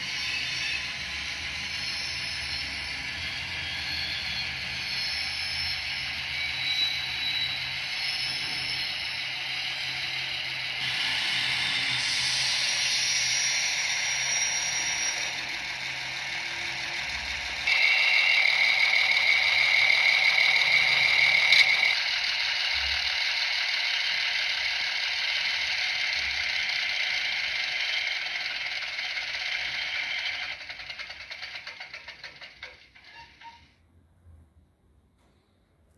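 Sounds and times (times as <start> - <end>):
steady high tone: 0.0 - 33.7
model train mechanical rattle: 0.0 - 33.8.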